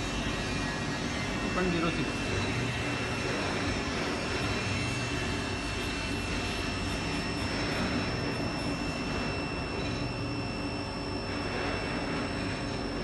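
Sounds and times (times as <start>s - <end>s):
high-pitched whine: 0.0s - 13.0s
machinery droning: 0.0s - 13.0s.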